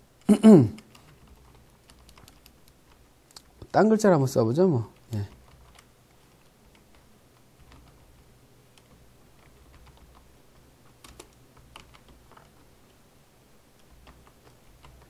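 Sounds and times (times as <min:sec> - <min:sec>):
keyboard typing: 0:00.2 - 0:03.8, 0:04.9 - 0:13.0, 0:13.7 - 0:15.0.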